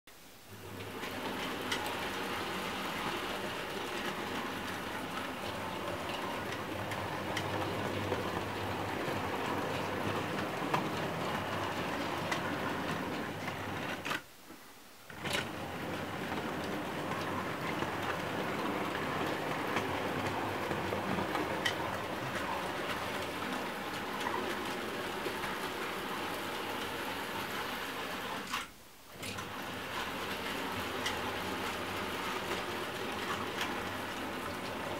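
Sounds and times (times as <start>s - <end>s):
wheels clattering on rails: 0.7s - 14.1s, 15.2s - 28.3s, 29.3s - 34.9s.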